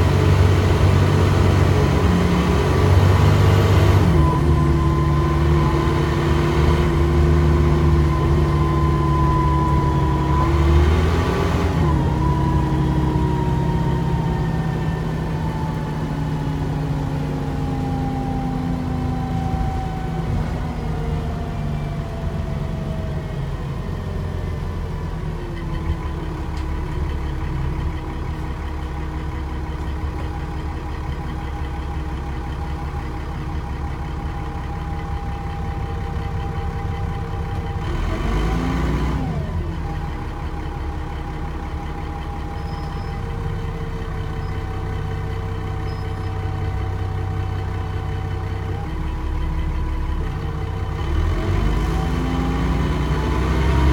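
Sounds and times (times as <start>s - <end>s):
bus diesel engine rumbling: 0.0s - 53.9s.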